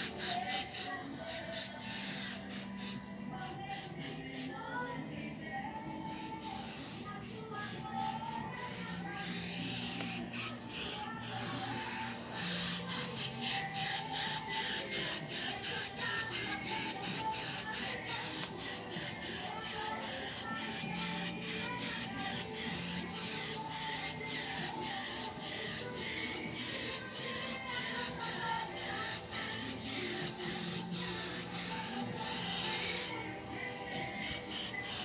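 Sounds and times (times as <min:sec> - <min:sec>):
background music: 0:00.0 - 0:35.0.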